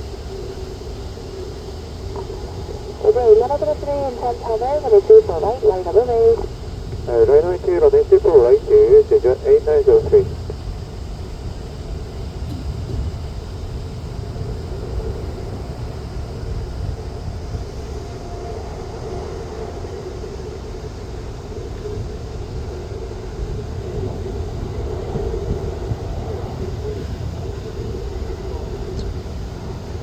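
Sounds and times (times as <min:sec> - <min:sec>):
jet airliner engines running: 0:00.0 - 0:30.0.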